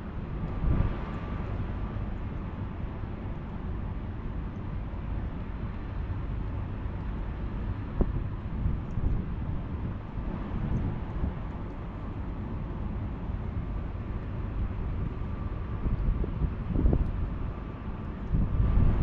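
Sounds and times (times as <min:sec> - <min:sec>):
wind buffeting microphone: 0:00.0 - 0:03.8, 0:06.2 - 0:19.0.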